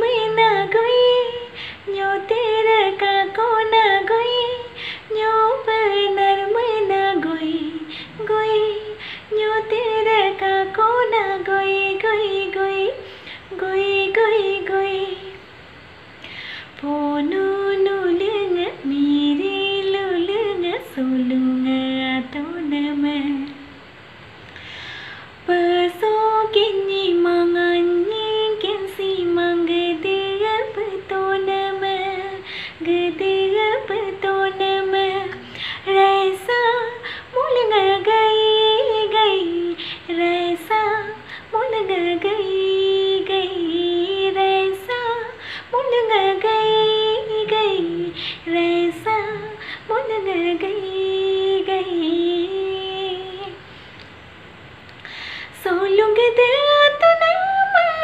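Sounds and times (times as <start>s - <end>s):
woman singing unaccompanied: 0.0s - 24.0s, 24.6s - 53.7s, 55.4s - 58.0s.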